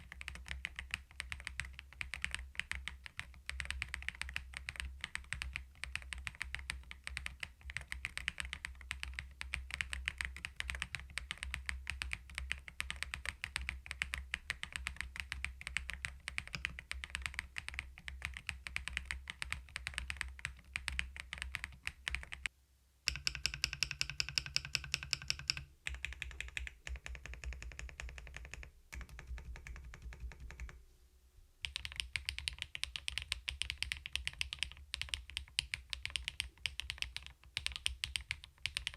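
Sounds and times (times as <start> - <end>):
keyboard typing: 0.0 - 22.5, 23.1 - 30.8, 31.6 - 38.9.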